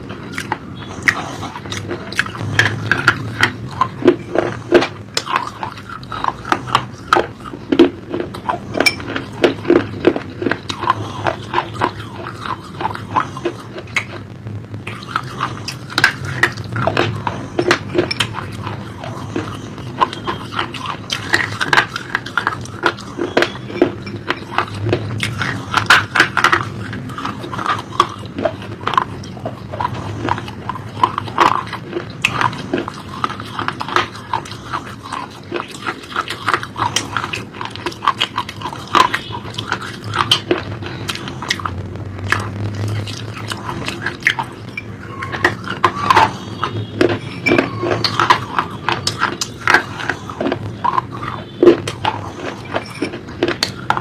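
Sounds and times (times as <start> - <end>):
chewing crunchy food: 0.0 - 54.0
swallowing: 0.0 - 54.0.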